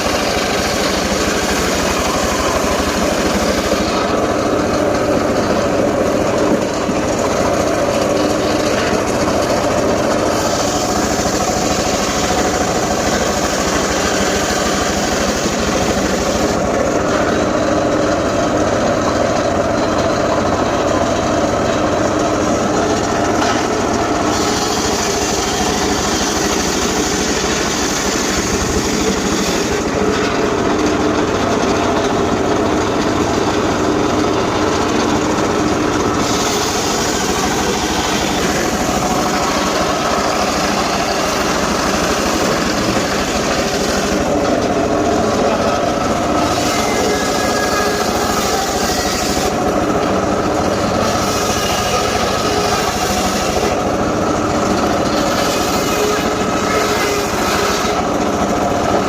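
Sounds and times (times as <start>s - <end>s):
petrol saw engine running: 0.0s - 59.0s
saw blade cutting wood: 0.0s - 59.0s.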